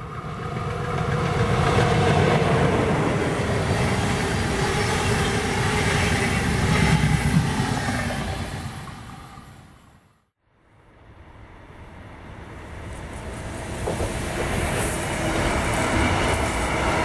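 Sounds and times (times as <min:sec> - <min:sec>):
passenger train passing: 0:00.0 - 0:17.0.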